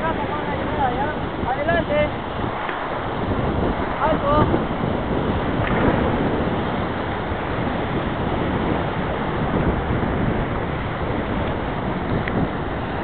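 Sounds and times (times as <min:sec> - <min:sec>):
whitewater river rapids rushing: 0:00.0 - 0:13.0
wind noise on microphone: 0:00.0 - 0:13.0.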